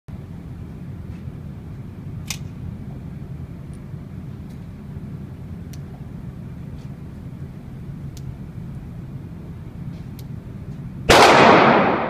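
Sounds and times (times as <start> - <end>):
low background rumble: 0.1 - 12.0.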